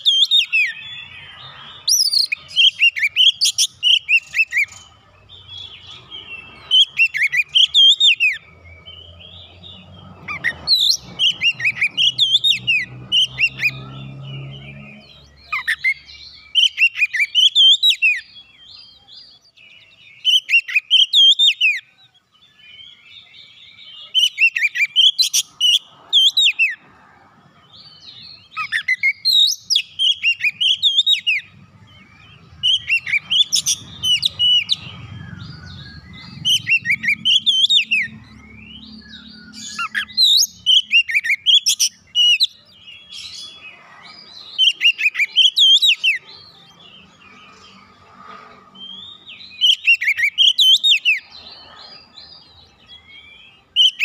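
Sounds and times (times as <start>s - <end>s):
bird singing whistles and chirps: 0.0s - 26.8s, 27.7s - 54.0s.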